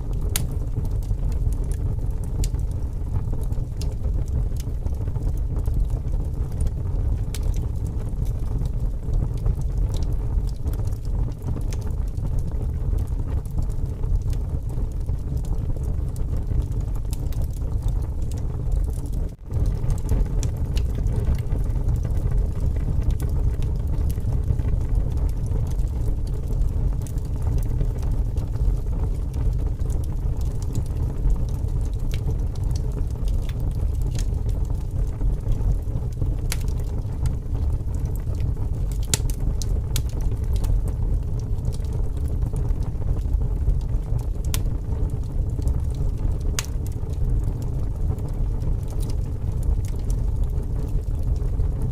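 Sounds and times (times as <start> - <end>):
low wind rumble: 0.0 - 51.9
wood fire crackling: 0.0 - 51.9.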